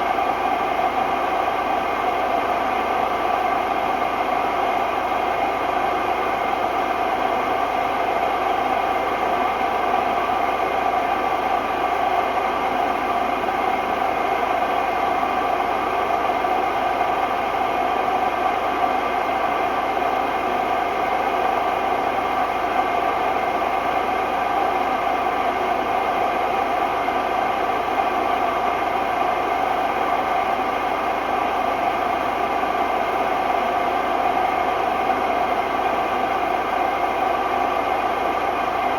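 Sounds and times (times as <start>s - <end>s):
washing machine spinning noisily: 0.0s - 38.9s.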